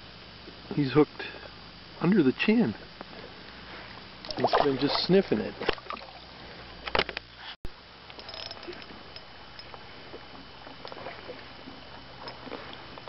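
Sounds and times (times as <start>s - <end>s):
low background noise on boat: 0.0s - 13.0s.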